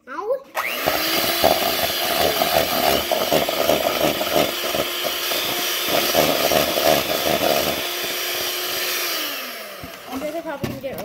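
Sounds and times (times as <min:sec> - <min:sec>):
whisk chattering in bowl: 0:00.6 - 0:10.4
electric hand mixer running: 0:00.6 - 0:11.0.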